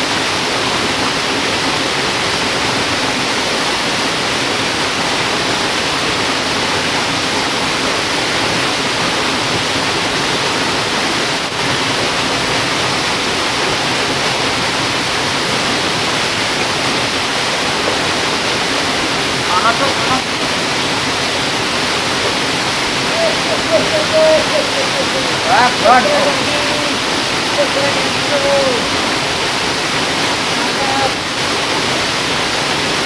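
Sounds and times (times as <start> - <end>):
rushing river water: 0.0 - 33.0.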